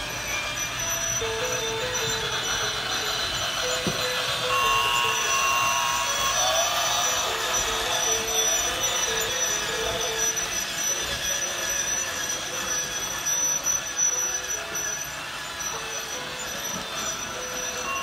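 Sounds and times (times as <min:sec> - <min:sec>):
thin toy tune: 0:00.0 - 0:18.0
toy train motor whir: 0:00.0 - 0:18.0.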